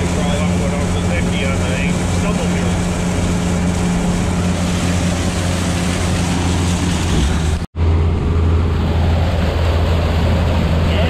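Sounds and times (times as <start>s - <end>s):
churned water: 0.0s - 11.0s
diesel engine running: 0.0s - 11.0s.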